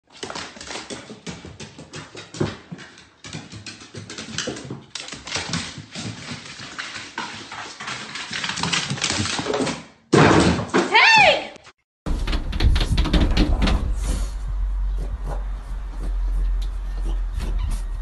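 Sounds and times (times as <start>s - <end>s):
paws and feet on wooden stairs: 0.0s - 9.8s, 12.1s - 18.0s.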